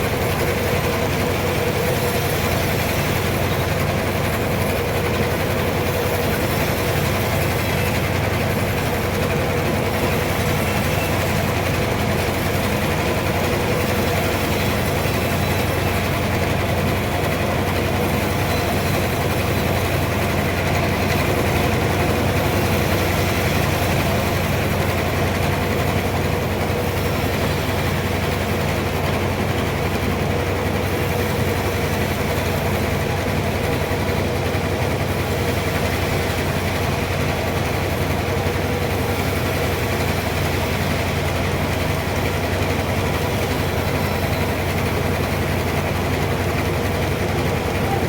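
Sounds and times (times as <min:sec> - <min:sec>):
sawmill machinery motor drone: 0:00.0 - 0:48.0.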